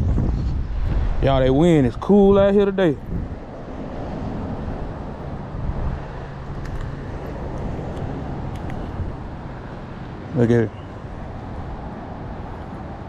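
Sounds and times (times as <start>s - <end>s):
road traffic: 0.0s - 13.0s
wind on microphone: 0.0s - 13.0s.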